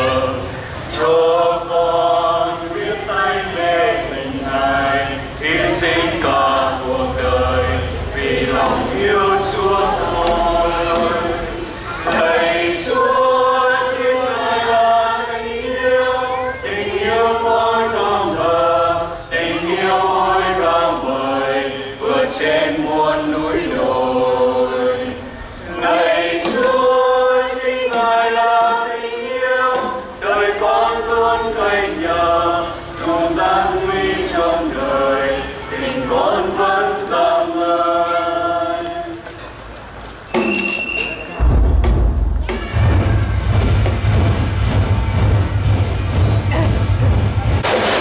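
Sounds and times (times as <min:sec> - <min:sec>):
choir singing a slow hymn: 0:00.0 - 0:39.4.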